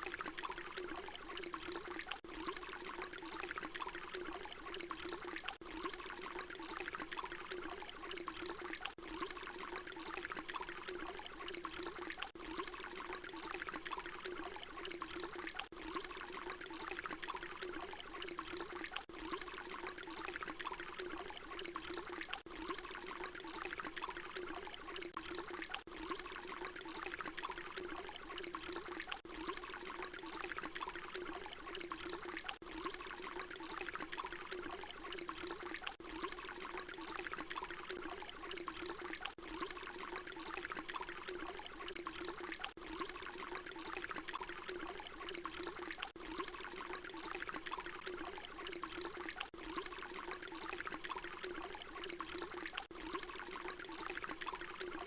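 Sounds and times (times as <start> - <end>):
water pouring: 0.0 - 55.0.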